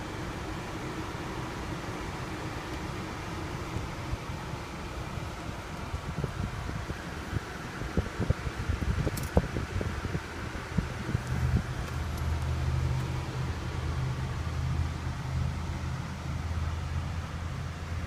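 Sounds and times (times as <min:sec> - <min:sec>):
low car cabin hum: 0:00.0 - 0:18.0.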